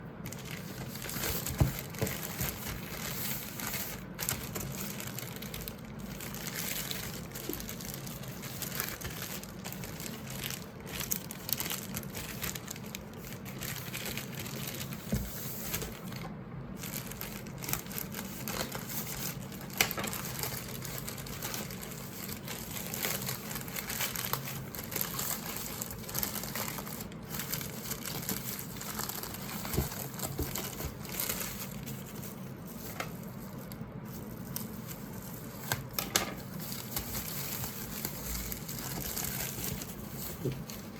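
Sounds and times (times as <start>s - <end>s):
packaging crinkling and rustling: 0.2s - 40.9s.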